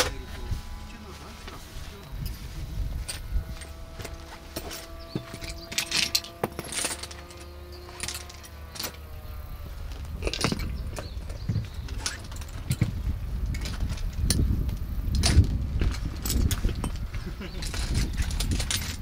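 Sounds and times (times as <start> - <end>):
steady low rumble: 0.0 - 19.0
metal tools clinking and rattling: 1.4 - 19.0.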